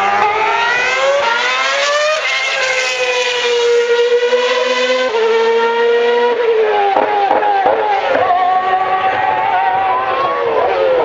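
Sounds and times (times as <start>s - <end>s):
racing car engine at high revs: 0.0s - 11.0s.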